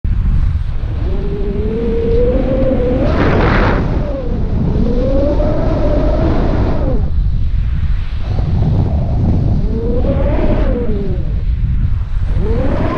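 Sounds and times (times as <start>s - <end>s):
wind rushing over microphone: 0.0s - 12.9s
hissing wind gust: 0.1s - 12.9s.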